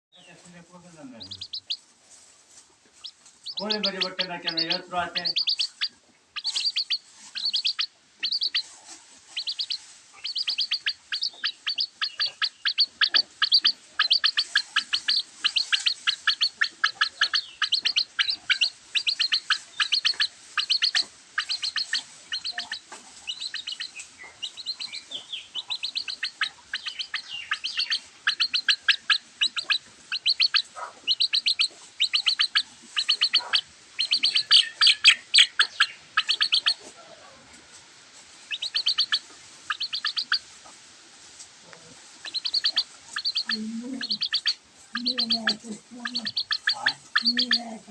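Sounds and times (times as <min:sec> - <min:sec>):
chicks peeping: 0:00.1 - 0:37.0, 0:37.7 - 0:47.9.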